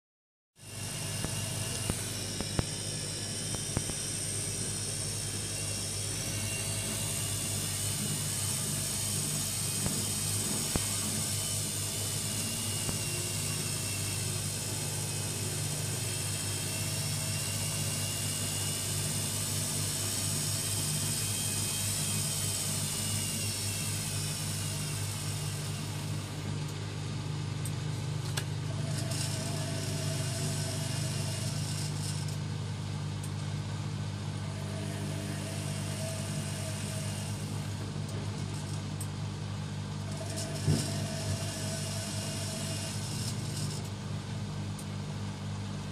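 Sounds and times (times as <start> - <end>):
faint whine: 0.6 - 45.9
washing machine motor hum: 0.6 - 45.9.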